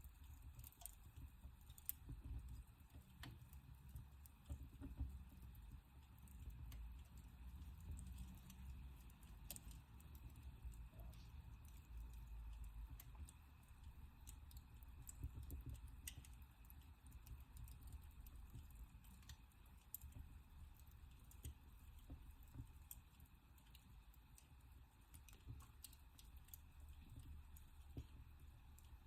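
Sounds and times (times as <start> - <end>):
low rumble of flames: 0.0 - 29.0
wood fire crackling: 0.0 - 29.0.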